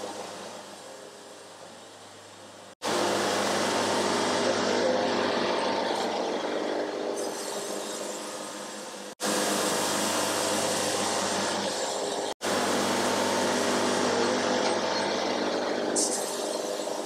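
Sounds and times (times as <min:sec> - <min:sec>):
sawmill engine drone: 0:00.0 - 0:17.0.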